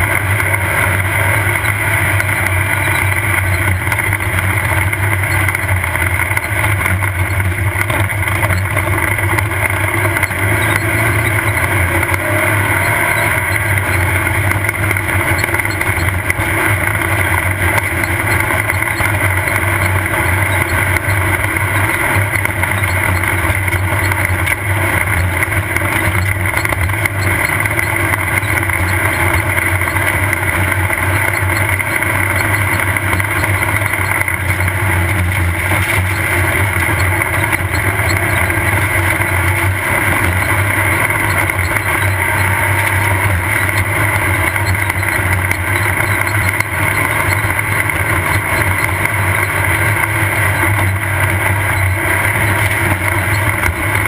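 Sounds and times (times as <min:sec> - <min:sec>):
engine running hard: 0:00.0 - 0:54.0
road and wind noise: 0:00.0 - 0:54.0.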